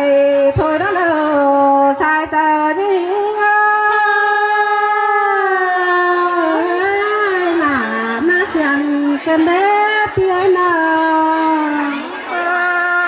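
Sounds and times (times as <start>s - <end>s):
woman singing slow melody: 0.0s - 13.0s.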